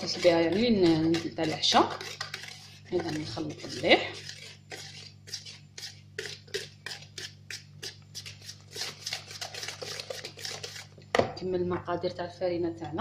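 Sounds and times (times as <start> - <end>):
whisk beating batter in bowl: 0.0 - 11.0.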